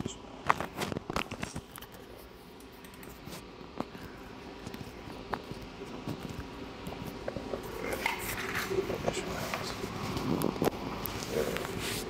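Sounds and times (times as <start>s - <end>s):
faint clicks and handling noise: 0.0s - 12.0s.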